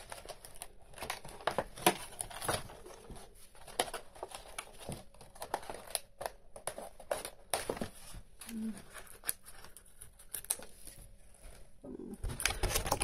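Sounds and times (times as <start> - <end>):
plastic and cardboard packaging crinkling: 0.0 - 13.0.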